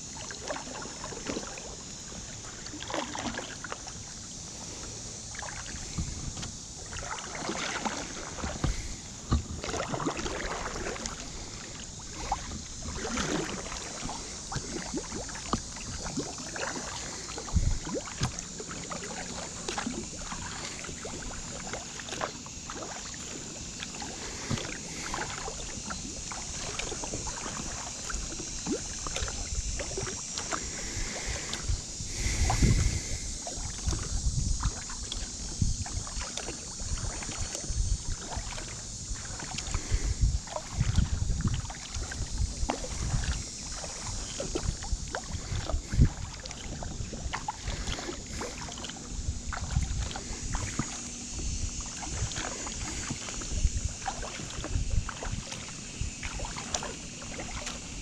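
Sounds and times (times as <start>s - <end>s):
paddle splashing in water: 0.0s - 58.0s.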